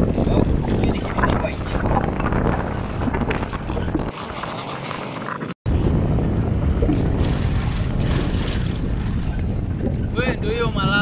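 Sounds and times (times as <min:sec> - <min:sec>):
wind buffeting microphone: 0:00.0 - 0:04.2, 0:05.6 - 0:11.0
vehicle rumble: 0:00.0 - 0:11.0.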